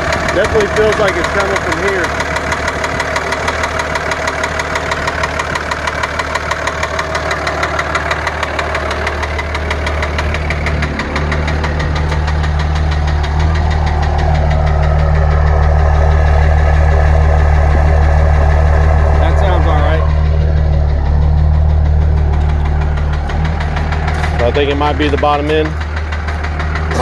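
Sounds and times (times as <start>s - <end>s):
diesel engine idling with knock: 0.0s - 27.0s.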